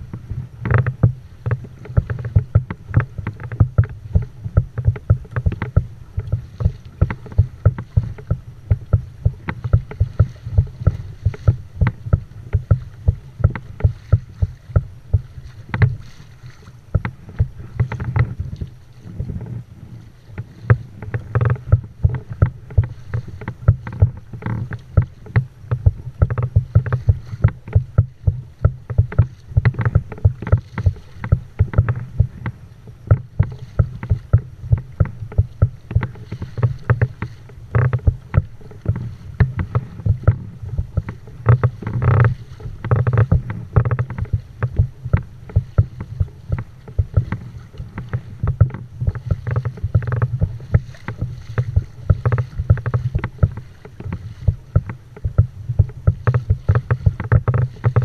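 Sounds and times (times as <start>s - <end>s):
waves slapping against hull: 0.0s - 58.0s.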